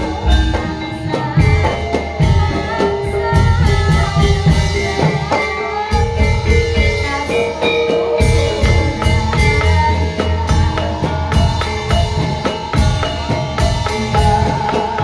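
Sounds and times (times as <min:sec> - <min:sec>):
music with steady drumming: 0:00.0 - 0:15.0.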